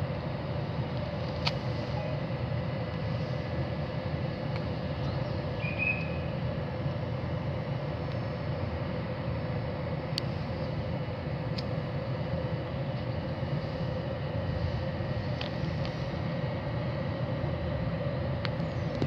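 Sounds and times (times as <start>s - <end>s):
constant hum: 0.0s - 19.0s.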